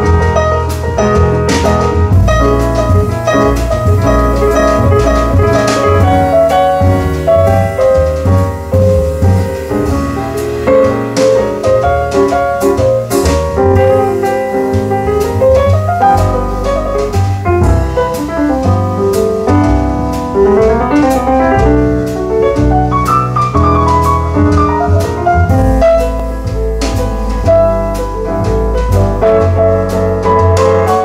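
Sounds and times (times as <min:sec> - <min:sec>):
drums with cymbal strokes: 0:00.0 - 0:31.0
jazz piano: 0:00.0 - 0:31.0.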